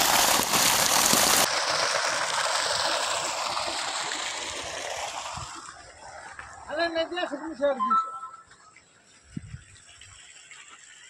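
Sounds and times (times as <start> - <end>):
water gushing from pipe: 0.0 - 7.0, 9.1 - 11.0.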